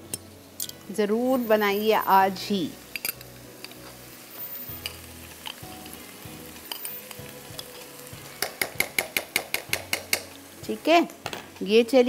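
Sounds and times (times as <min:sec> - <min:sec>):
chicken and onions sizzling: 0:00.0 - 0:12.0.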